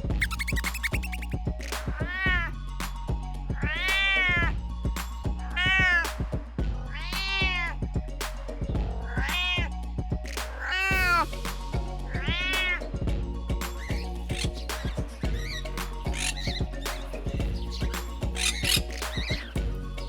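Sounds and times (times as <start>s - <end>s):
background music with beat: 0.0s - 20.0s.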